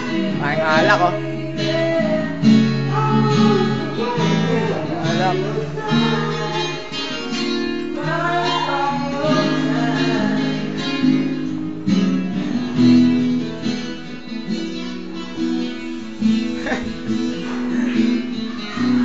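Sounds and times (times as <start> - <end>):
guitar playing held notes: 0.0 - 19.0.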